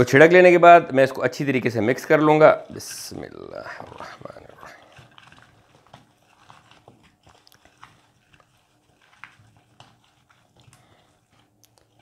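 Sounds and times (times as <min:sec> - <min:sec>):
raw vegetables tossed in bowl: 0:01.4 - 0:12.0.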